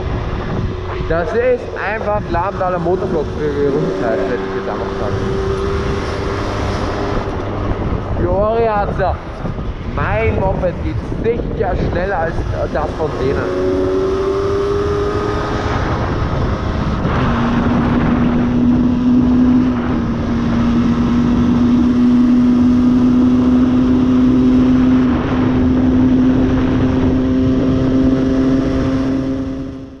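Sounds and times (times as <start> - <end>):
moped engine revving high: 0.0 - 8.2, 12.0 - 30.0
wind noise on microphone: 0.0 - 30.0.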